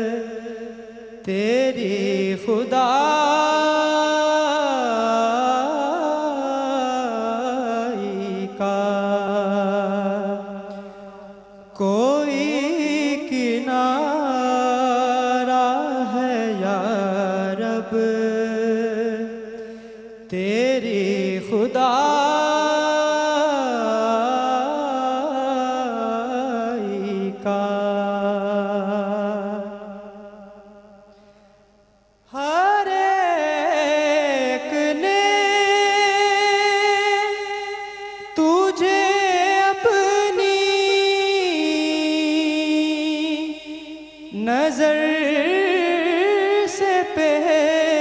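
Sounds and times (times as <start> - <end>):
man chanting into a microphone: 0.0 - 31.3, 32.2 - 48.0.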